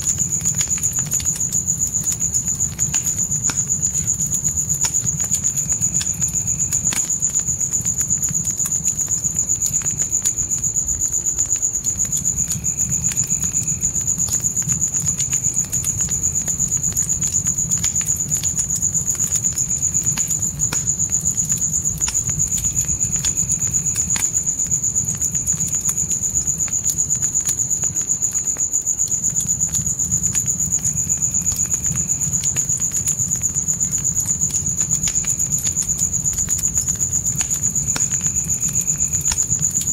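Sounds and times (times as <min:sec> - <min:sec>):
crickets trilling: 0:00.0 - 0:39.9
wood fire crackling and popping: 0:00.0 - 0:39.9.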